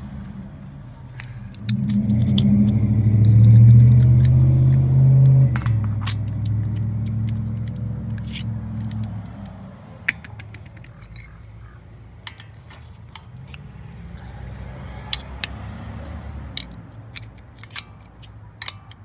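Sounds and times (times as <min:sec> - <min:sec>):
low steady rumble: 0:00.0 - 0:19.0
metal tools clinking and scraping: 0:00.2 - 0:19.0.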